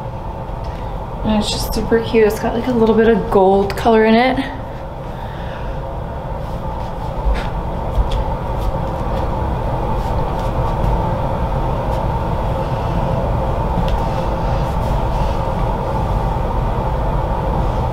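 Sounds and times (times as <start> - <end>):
droning hum: 0.0 - 17.9.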